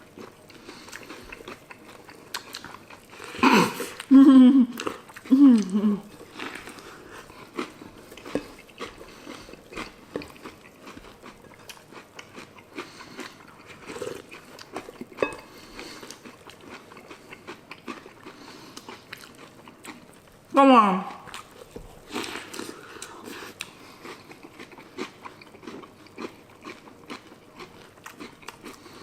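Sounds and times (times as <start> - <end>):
chewing and crunching cereal: 0.0 - 20.5, 21.3 - 29.0.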